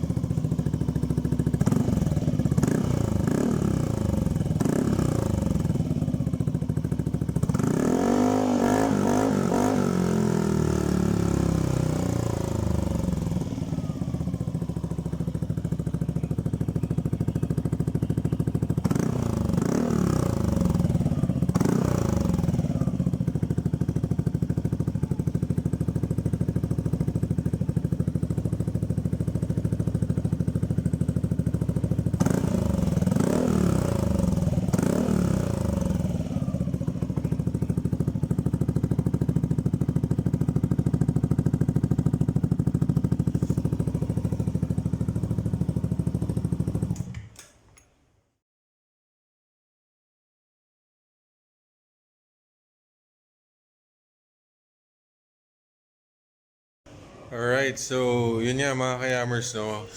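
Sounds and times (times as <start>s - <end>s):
scooter engine idling and revving: 0.0s - 47.8s, 56.9s - 59.9s.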